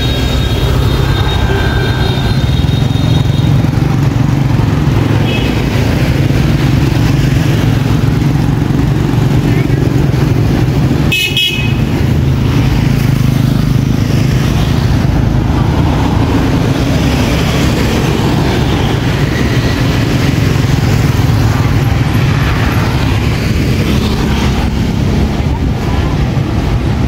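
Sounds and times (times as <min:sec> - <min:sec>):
motorbike engines running: 0:00.0 - 0:27.0
street traffic noise: 0:00.0 - 0:27.0.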